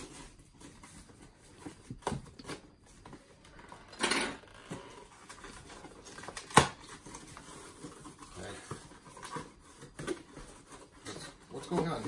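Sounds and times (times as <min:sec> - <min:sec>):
cardboard rustle: 0:00.0 - 0:03.5, 0:04.8 - 0:12.0.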